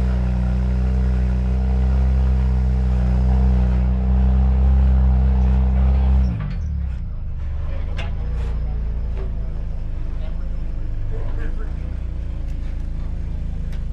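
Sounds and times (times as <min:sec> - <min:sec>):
engine running under load: 0:00.0 - 0:13.9.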